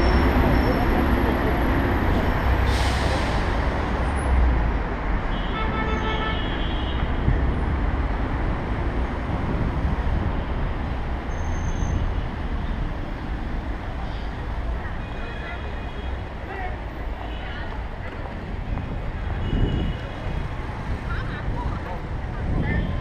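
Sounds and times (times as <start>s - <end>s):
rumble of passing cars and buses: 0.0s - 23.0s.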